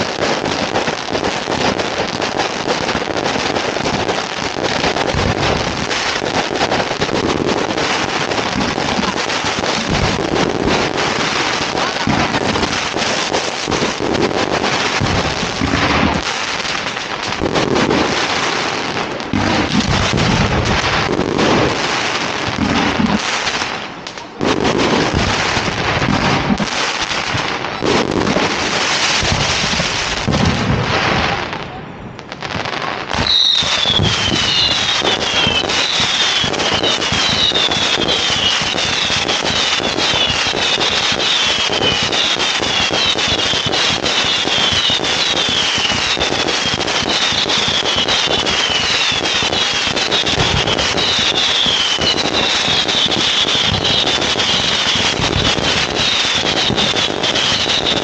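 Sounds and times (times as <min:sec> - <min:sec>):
falling whistles of fireworks: 0:00.0 - 0:58.0
firework bangs: 0:00.0 - 0:58.0
fireworks crackling: 0:00.0 - 0:58.0.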